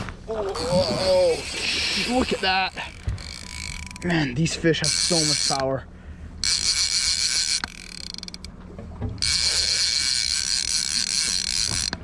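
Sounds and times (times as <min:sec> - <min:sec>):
fishing reel gears whirring: 0:00.0 - 0:12.0
faint reel ticks: 0:00.5 - 0:05.8, 0:06.4 - 0:08.6, 0:09.2 - 0:12.0.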